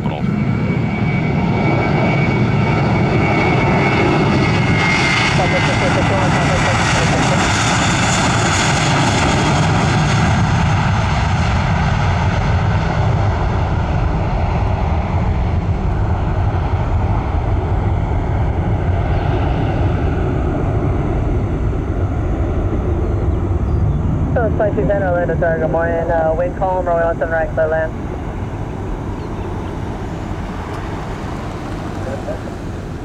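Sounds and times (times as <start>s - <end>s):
jet airliner passing: 0.0s - 33.0s.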